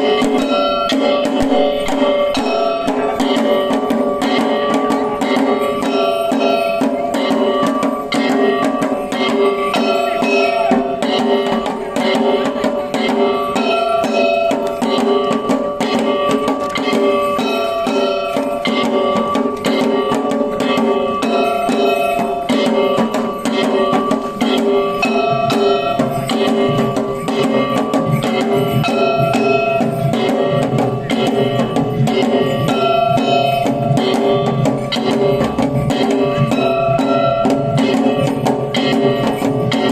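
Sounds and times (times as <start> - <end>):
fast steady drumming: 0.0 - 39.9
ringing metallic tones: 0.0 - 39.9.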